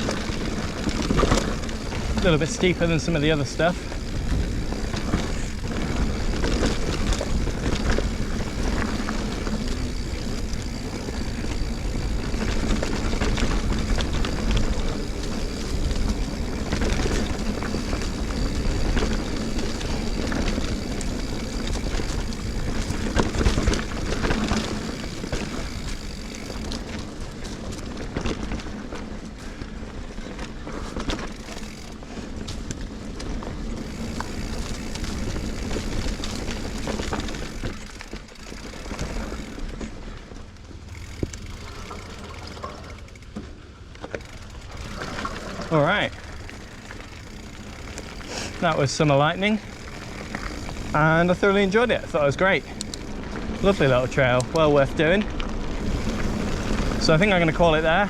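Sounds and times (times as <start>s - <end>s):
bike rattling and knocking: 0.0s - 58.0s
tyres rolling over dirt: 0.0s - 58.0s.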